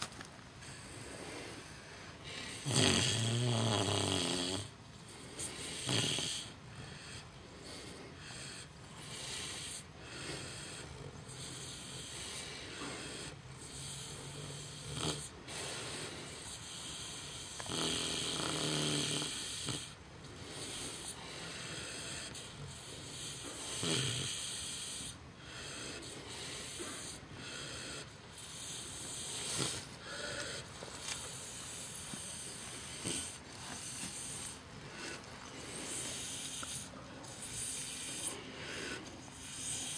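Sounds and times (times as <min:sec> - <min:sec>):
pig snoring: 0:00.6 - 0:39.9.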